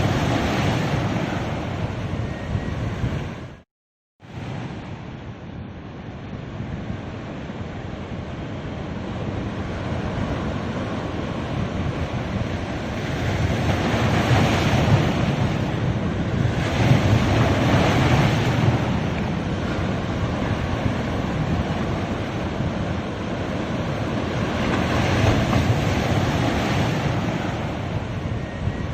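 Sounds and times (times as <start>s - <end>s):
ocean surf breaking on beach: 0.0s - 3.5s, 4.2s - 28.9s.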